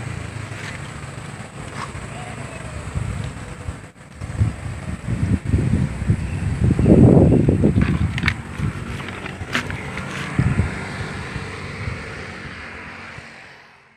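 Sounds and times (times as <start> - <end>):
wind buffeting microphone: 0.7 - 13.3.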